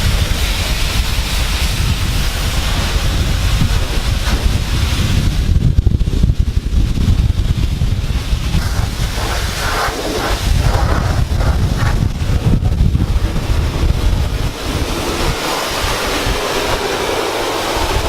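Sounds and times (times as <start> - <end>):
low gusty rumble: 0.0 - 18.0
wind buffeting microphone: 0.0 - 18.0.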